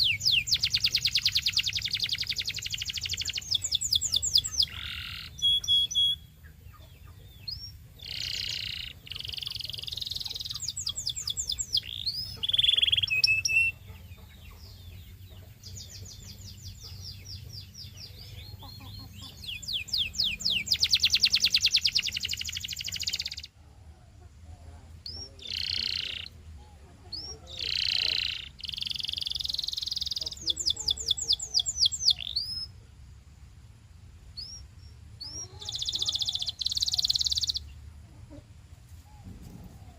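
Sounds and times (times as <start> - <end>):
canary singing trills: 0.0 - 33.0, 34.3 - 38.4.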